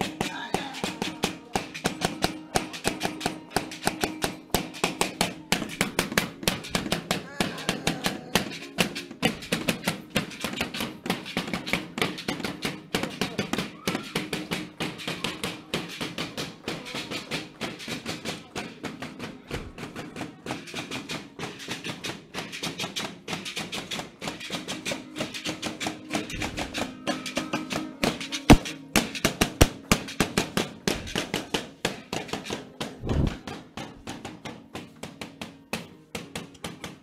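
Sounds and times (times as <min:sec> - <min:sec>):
dancers clacking and tapping: 0:00.0 - 0:37.0
faint music: 0:00.0 - 0:37.0.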